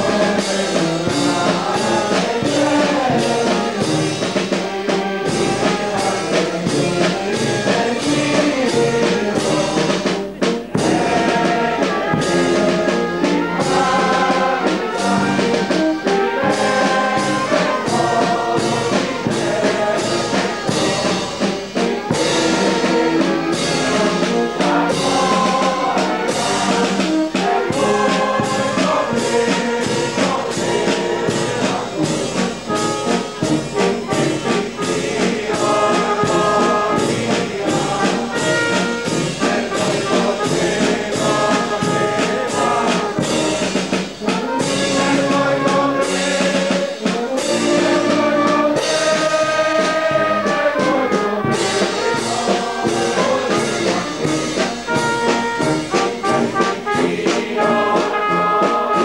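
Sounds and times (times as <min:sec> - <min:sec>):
marching brass band playing: 0:00.0 - 0:59.0.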